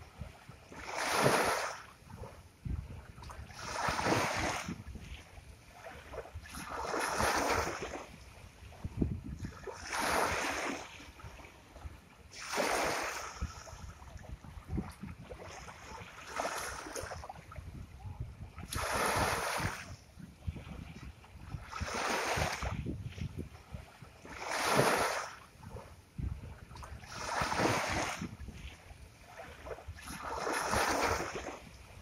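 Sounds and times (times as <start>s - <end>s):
ocean waves breaking: 0.0s - 32.0s.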